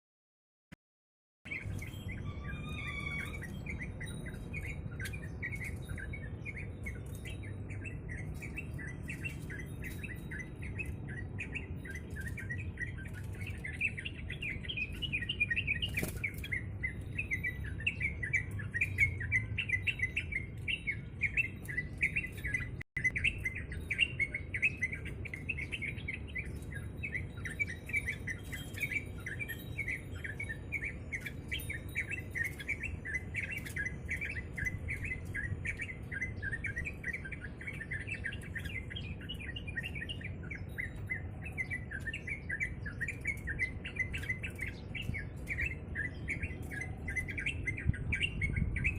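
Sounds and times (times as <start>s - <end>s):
bird chirping: 1.5s - 48.9s.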